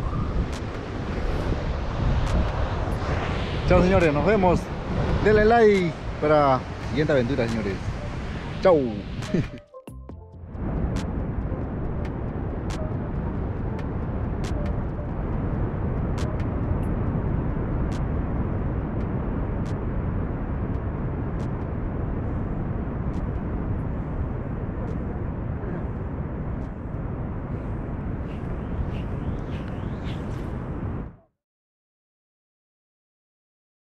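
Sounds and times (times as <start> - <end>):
sea surf: 0.0 - 9.6, 10.6 - 31.0
wind on microphone: 0.0 - 9.6, 10.4 - 31.3.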